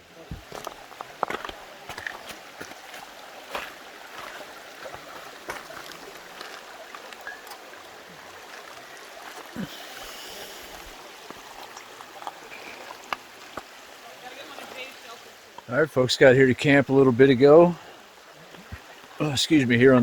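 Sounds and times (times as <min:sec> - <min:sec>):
creek water flowing: 0:00.0 - 0:20.0.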